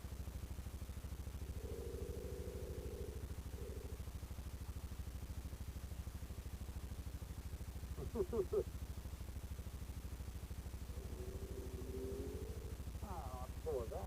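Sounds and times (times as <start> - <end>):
atv engine idling: 0.0 - 14.0.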